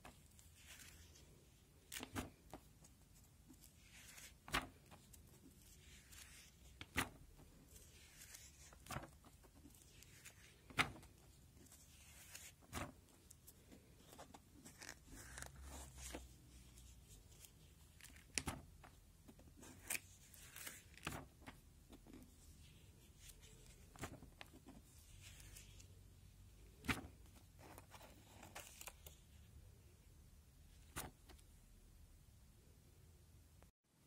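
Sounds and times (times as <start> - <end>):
plastic binder pages flipping: 0.1 - 25.8, 26.6 - 29.2, 30.9 - 31.4.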